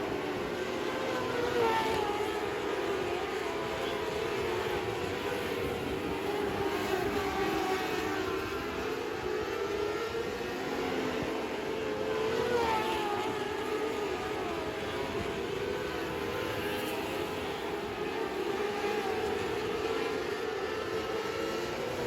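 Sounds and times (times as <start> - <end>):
race car engines running: 0.0 - 22.0.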